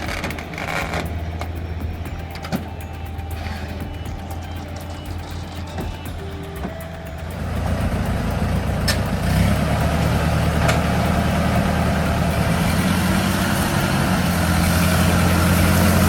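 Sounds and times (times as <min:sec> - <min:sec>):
heavy engine idling: 0:00.0 - 0:16.0.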